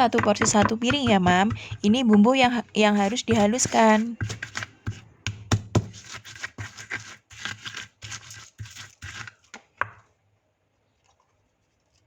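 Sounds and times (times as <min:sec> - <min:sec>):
pestle scraping in stone mortar: 0:00.0 - 0:10.0.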